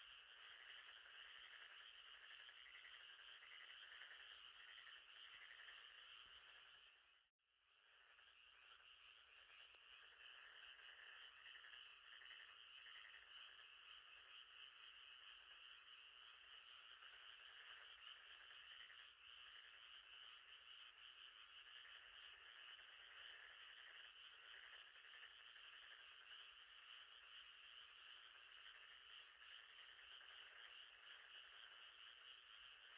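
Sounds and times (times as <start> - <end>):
frogs calling: 0.0 - 7.2, 7.8 - 32.9.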